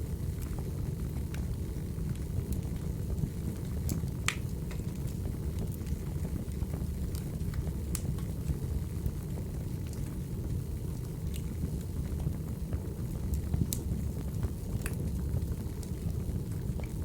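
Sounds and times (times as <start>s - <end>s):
wood fire crackling: 0.0s - 17.0s
fire pops and snaps: 0.3s - 17.0s.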